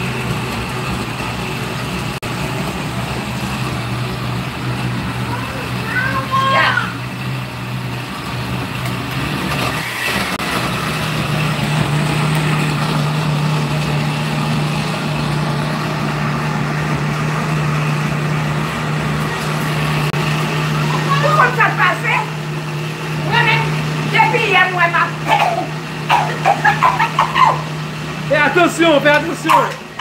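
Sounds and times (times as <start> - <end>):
electric blender running: 0.0 - 30.0.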